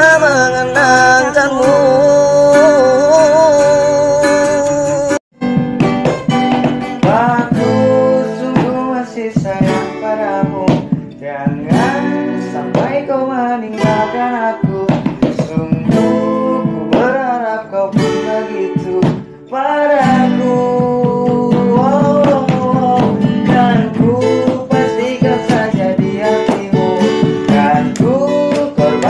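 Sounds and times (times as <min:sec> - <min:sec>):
person singing slow melody: 0:00.0 - 0:05.2, 0:07.0 - 0:29.0
strummed acoustic guitar: 0:00.0 - 0:29.0.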